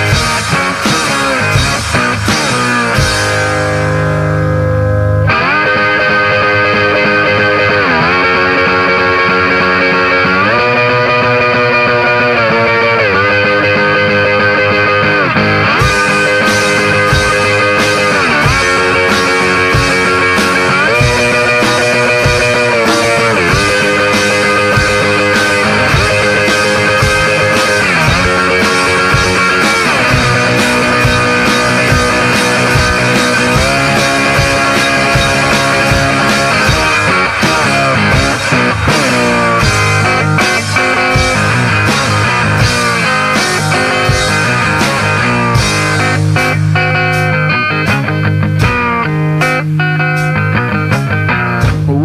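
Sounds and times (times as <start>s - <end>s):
rock music with sliding guitar: 0.0s - 52.0s.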